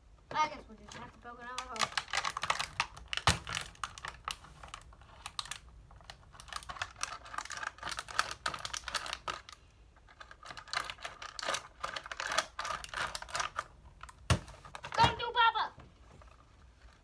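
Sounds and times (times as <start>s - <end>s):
plastic bottle crackling: 0.3s - 17.0s.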